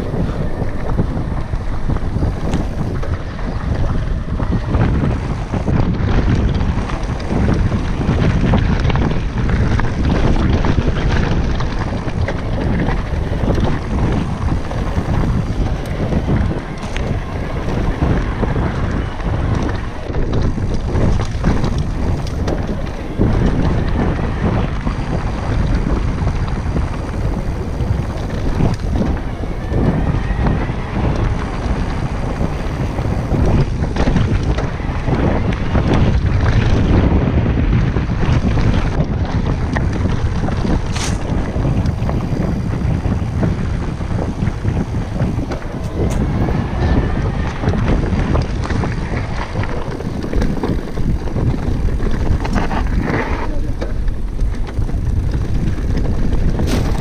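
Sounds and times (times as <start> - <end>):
bike knocking and rattling: 0.0 - 57.0
tyres rumbling on gravel: 0.0 - 57.0
wind buffeting microphone: 0.0 - 57.0.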